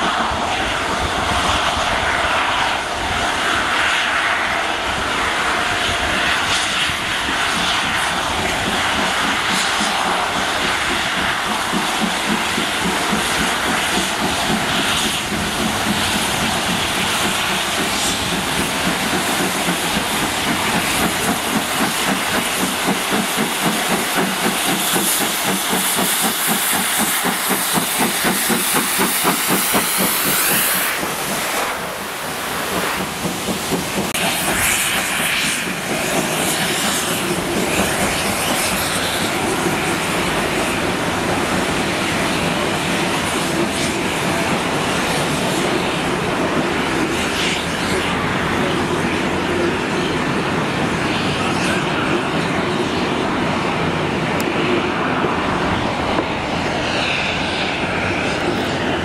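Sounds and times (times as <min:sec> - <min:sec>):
hiss of steam: 0:00.0 - 0:59.0
steam locomotive exhaust beats: 0:00.0 - 0:59.0.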